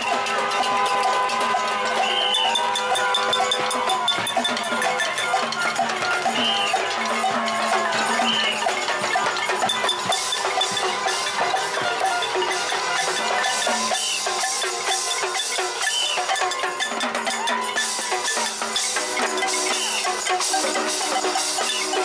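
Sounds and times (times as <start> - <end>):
car horns: 0.0 - 14.8, 18.8 - 22.0
cowbell percussion: 0.0 - 22.0
people shouting: 0.0 - 22.0.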